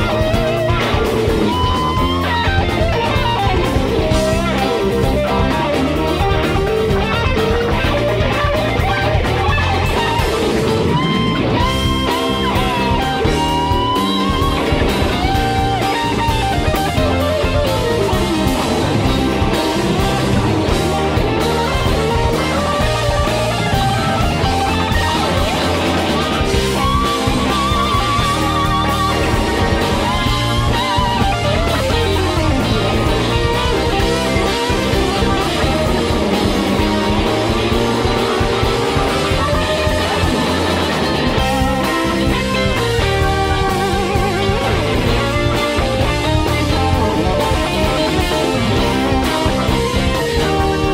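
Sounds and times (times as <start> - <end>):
drums: 0.0 - 50.9
lead electric guitar bending notes: 0.0 - 50.9
rock band playing: 0.0 - 50.9.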